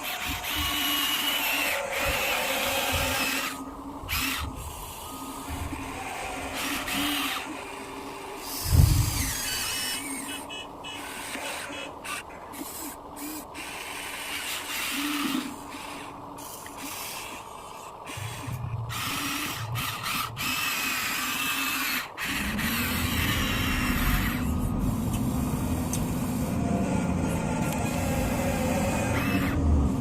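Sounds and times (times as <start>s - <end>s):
low steady running motor: 0.0s - 30.0s
small electric motors whirring: 0.0s - 30.0s.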